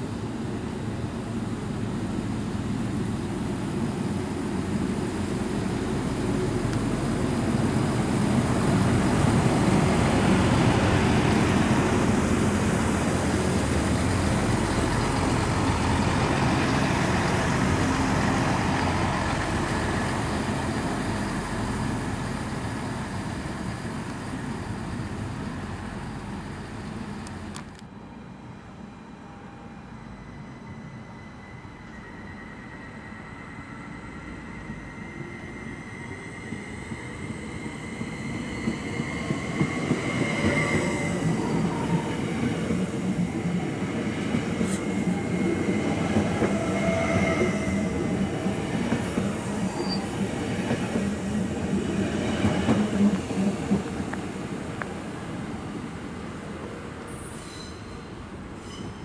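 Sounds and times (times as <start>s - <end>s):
diesel train passing: 0.0s - 59.0s.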